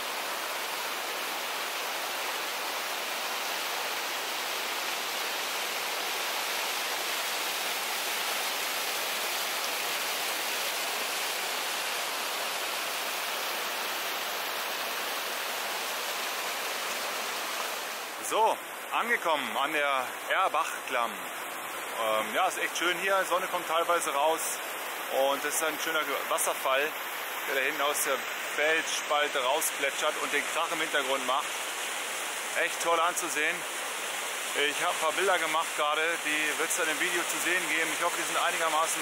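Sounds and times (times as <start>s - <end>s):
small waterfall splashing: 0.0s - 39.0s.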